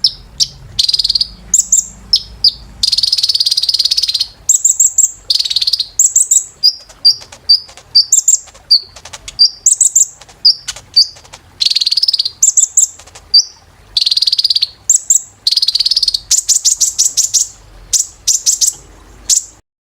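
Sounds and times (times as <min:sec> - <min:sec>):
bird singing high trills: 0:00.0 - 0:19.6.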